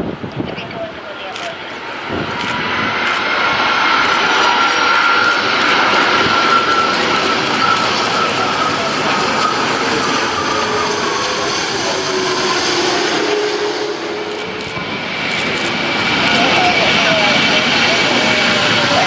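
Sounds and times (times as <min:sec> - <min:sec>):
jet engines passing: 0:00.0 - 0:19.0.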